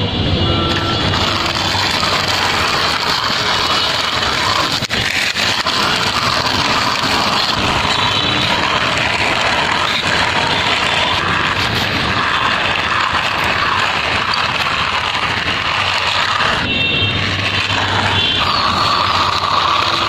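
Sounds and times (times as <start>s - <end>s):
car engine running: 0.7s - 20.0s.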